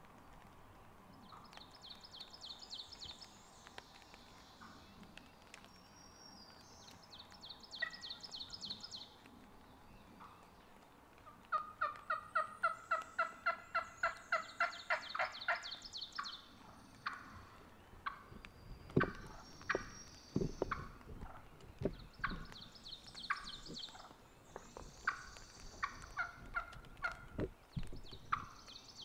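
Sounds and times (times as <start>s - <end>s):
rustles and knocks in dry leaves: 0.0s - 12.2s, 14.8s - 29.0s.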